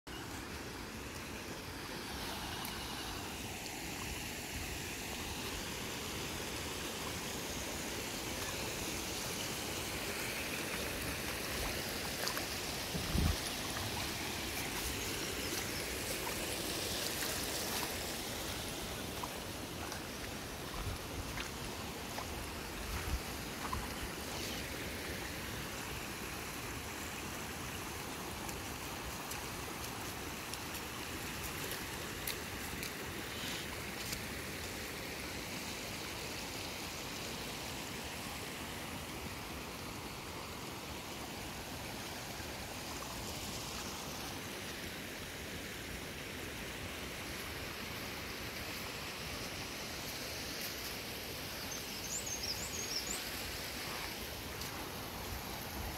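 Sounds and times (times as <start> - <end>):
river water rushing: 0.1 - 55.9.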